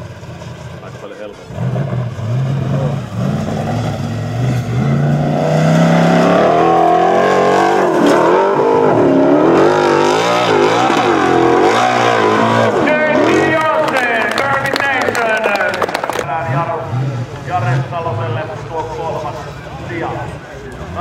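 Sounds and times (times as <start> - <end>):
buggy engine revving hard: 0.0 - 21.0.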